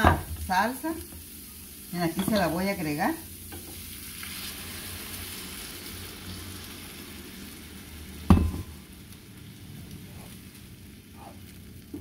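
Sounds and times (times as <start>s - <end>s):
sauce sizzling in frying pan: 0.0s - 12.0s.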